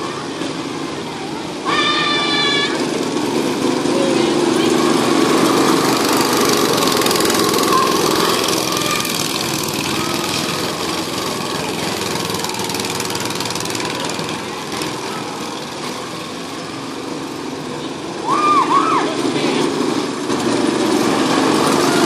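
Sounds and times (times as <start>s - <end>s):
go-kart engines running: 0.0s - 22.0s.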